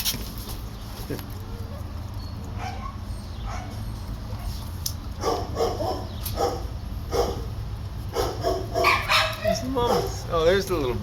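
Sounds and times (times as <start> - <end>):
dogs barking: 1.5 - 10.6.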